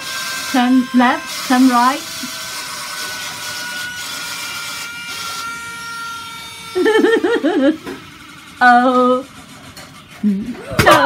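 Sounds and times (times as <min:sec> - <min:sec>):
suction fan whine: 0:00.0 - 0:11.0.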